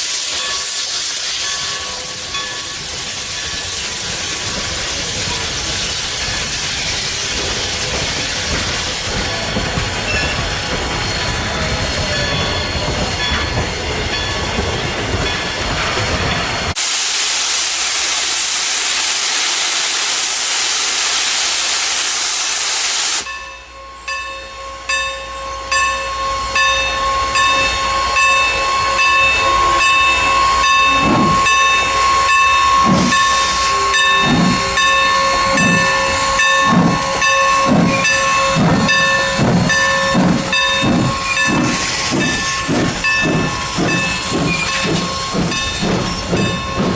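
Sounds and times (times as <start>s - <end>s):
steam hissing: 0.0s - 23.4s, 25.5s - 46.9s
steam locomotive chuffing: 0.0s - 46.9s.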